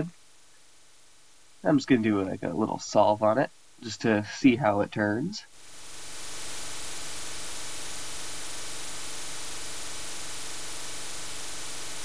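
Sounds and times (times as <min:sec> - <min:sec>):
static hiss: 0:00.0 - 0:12.0.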